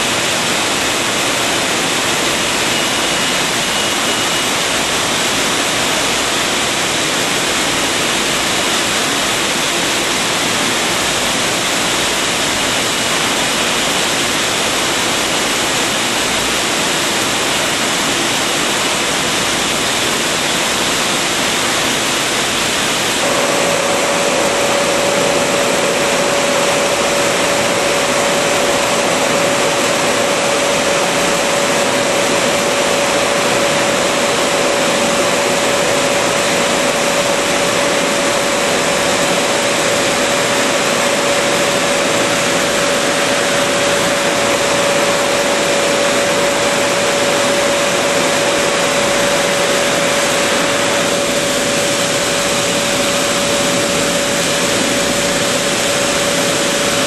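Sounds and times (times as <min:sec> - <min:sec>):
bottle-filling machine running: 0:00.0 - 0:57.0
steady mid-pitched hum: 0:00.0 - 0:57.0.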